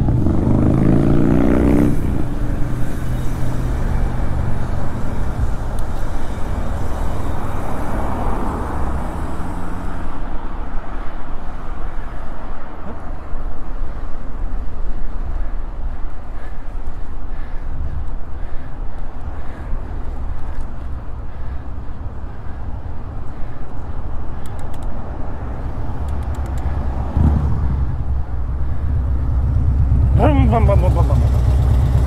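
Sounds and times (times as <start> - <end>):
vehicle engine: 0.0 - 11.3, 12.8 - 32.0
wind rushing over microphone: 0.0 - 30.2
cars passing: 0.0 - 32.0.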